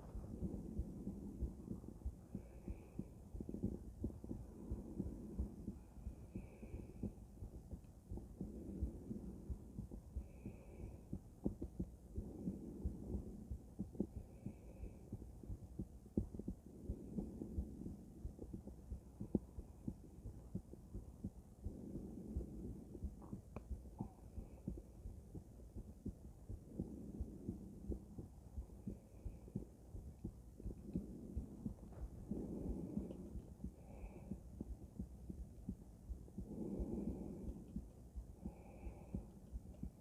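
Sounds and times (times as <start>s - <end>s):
heartbeat thumps: 0.0s - 40.0s
low rumble: 0.0s - 40.0s.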